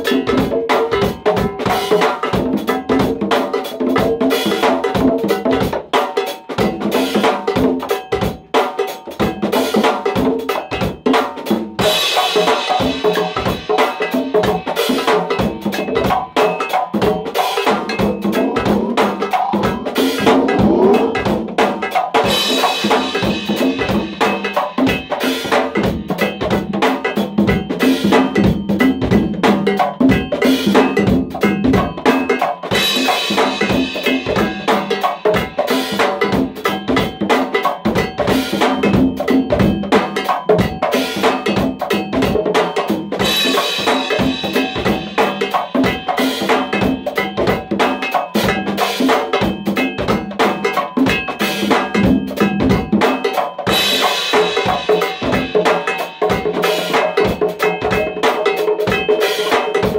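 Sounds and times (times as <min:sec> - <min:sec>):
congas hand-drummed: 0:00.0 - 0:59.9
percussion beat with cowbell ring: 0:00.0 - 0:59.9.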